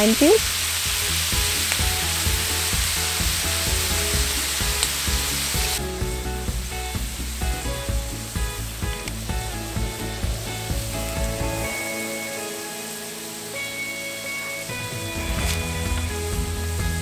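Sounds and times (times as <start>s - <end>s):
food sizzling on hot plate: 0.0s - 17.0s
light background music: 0.0s - 17.0s.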